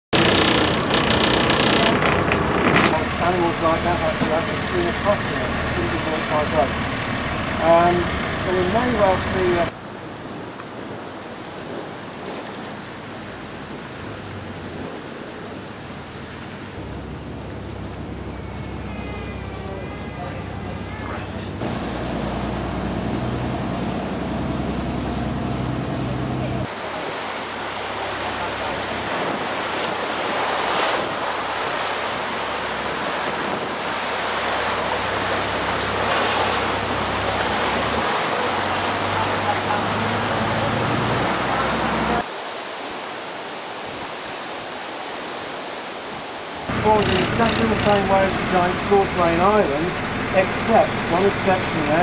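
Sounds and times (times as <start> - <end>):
boat engine hum: 0.1 - 42.3, 46.6 - 52.0
wind and sea water rushing: 0.2 - 52.0.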